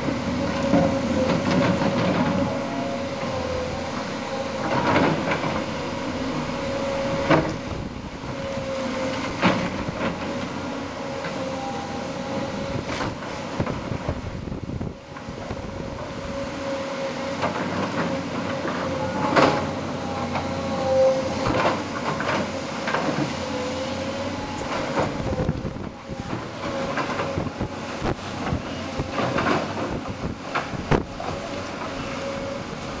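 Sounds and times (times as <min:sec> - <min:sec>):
excavator diesel engines whining: 0:00.0 - 0:33.0.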